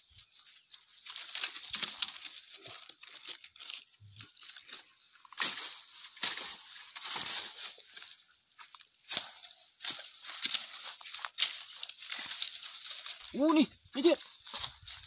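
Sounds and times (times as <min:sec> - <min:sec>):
dry fronds and straw rustling: 0:00.0 - 0:15.0.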